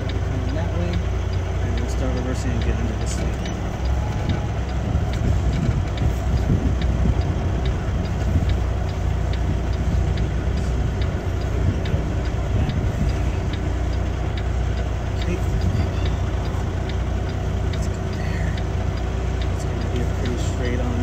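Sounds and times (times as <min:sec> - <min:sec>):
diesel truck engine running: 0:00.0 - 0:21.0
hazard flasher ticking: 0:00.0 - 0:21.0.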